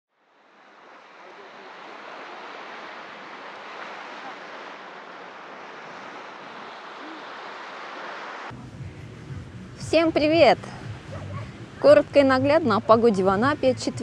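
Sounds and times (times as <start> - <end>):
waves breaking on beach: 0.1 - 14.0.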